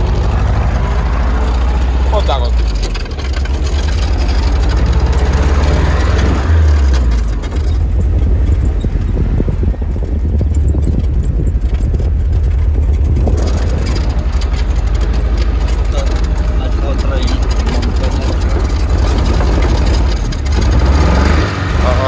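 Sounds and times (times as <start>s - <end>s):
off-road vehicle engine rumbling: 0.0s - 22.0s
vehicle body rattling: 0.0s - 22.0s.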